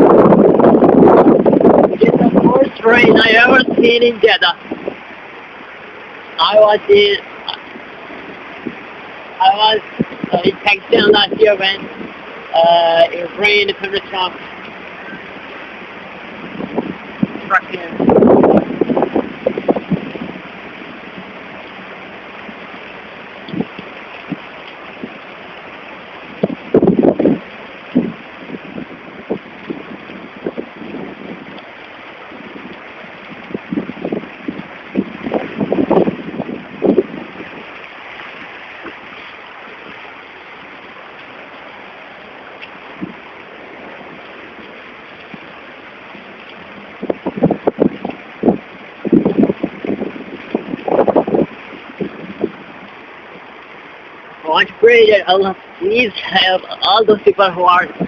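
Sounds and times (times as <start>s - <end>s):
heavy rain pouring: 0.0s - 58.0s
wind buffeting microphone: 0.0s - 58.0s.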